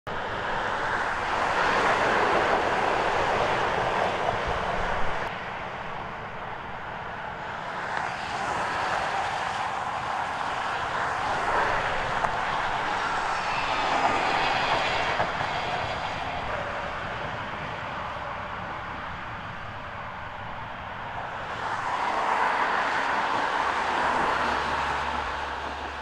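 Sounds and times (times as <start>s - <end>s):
freeway traffic rushing past: 0.1s - 26.0s.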